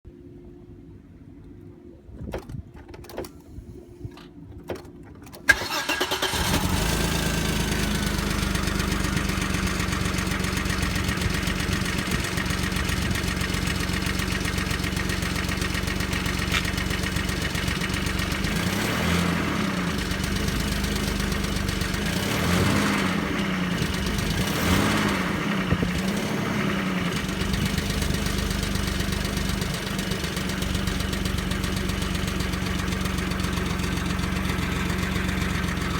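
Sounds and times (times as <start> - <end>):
car engine starting and idling: 2.8 - 35.9.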